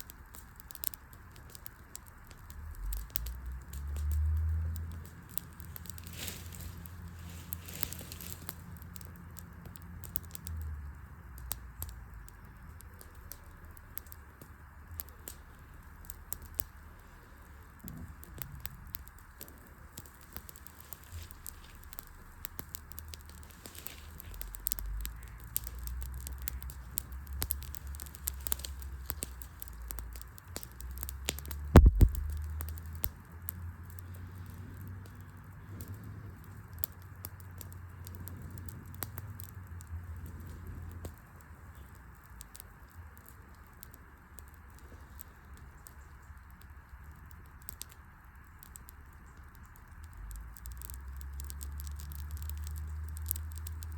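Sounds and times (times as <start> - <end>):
campfire crackling and popping: 0.0 - 53.9
low fire rumble: 0.0 - 53.9.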